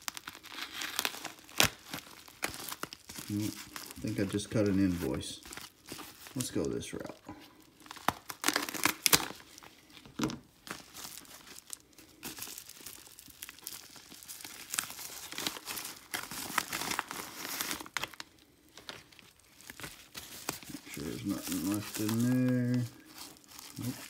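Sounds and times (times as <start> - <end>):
padded envelope crinkling and tearing: 0.0 - 24.0.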